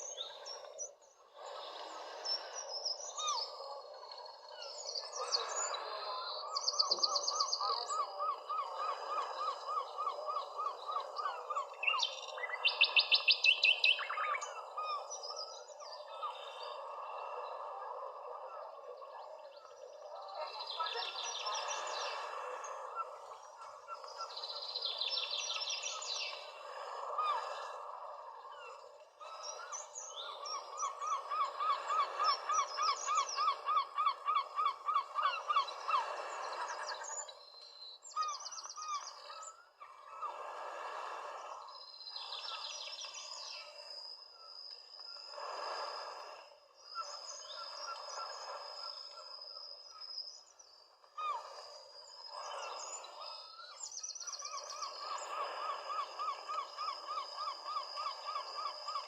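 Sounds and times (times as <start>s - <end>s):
birds calling and singing: 0.0s - 40.3s, 46.8s - 59.0s.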